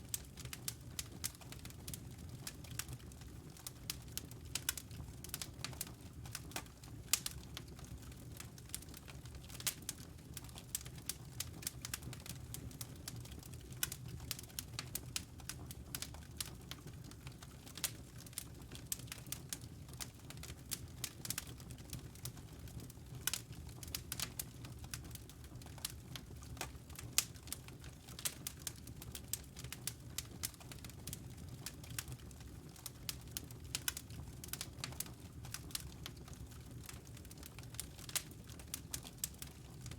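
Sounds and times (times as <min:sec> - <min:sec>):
low rumble of burning fire: 0:00.0 - 0:39.9
wood fire crackling: 0:00.0 - 0:39.9.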